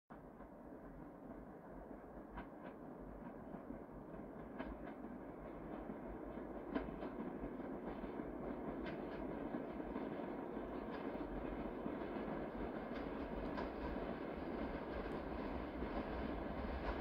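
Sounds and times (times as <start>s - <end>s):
freight train rumbling: 0.1s - 17.0s.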